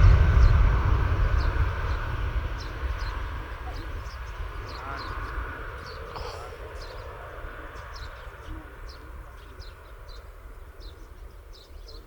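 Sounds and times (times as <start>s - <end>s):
distant jet airliner rumble: 0.0s - 12.0s.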